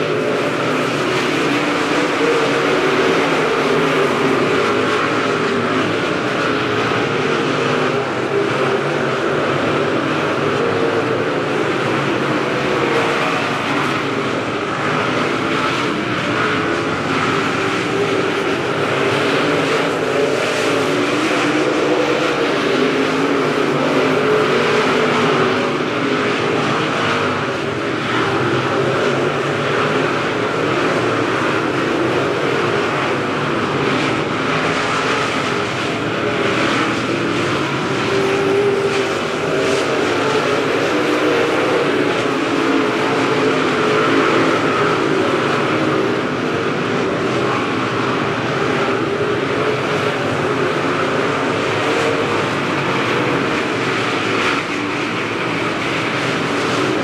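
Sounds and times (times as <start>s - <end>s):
race car engines roaring past: 0.0s - 57.0s.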